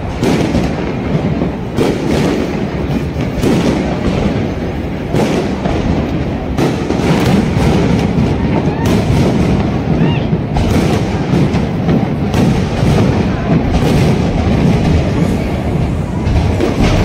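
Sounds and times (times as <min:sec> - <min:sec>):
sharp fireworks booms: 0:00.0 - 0:17.0.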